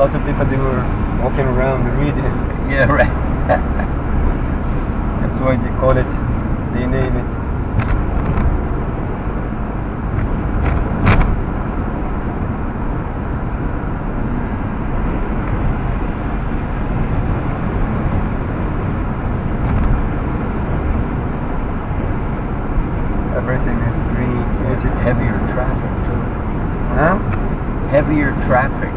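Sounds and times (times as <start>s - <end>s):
road and tyre noise in car: 0.0s - 28.9s.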